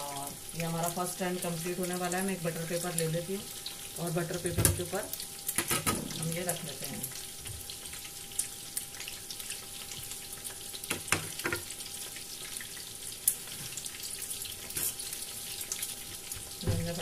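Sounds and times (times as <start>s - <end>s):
chicken frying in oil: 0.0s - 17.0s.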